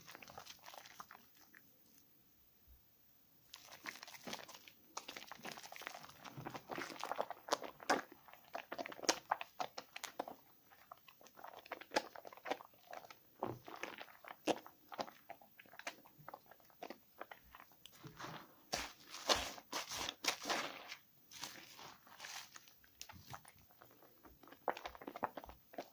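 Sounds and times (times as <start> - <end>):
small crackles: 3.4 - 25.9.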